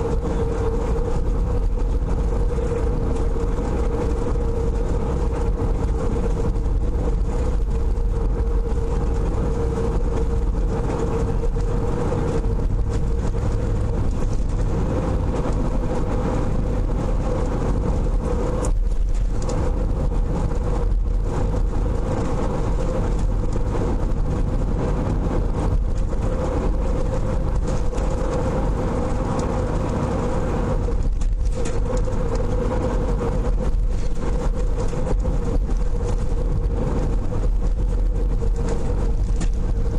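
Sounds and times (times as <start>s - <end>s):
car engine and tyres droning: 0.0s - 39.9s
steady hum: 0.0s - 39.9s.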